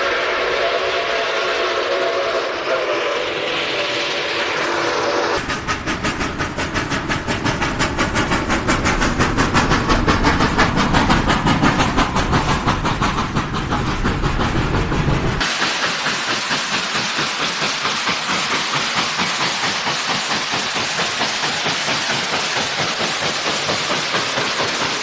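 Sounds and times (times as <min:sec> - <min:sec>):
train running: 0:00.0 - 0:25.0.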